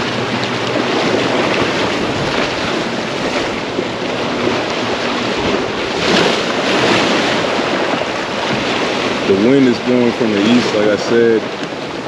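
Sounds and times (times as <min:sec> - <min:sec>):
waves washing: 0:00.0 - 0:12.0
wind rushing over microphone: 0:00.0 - 0:12.0.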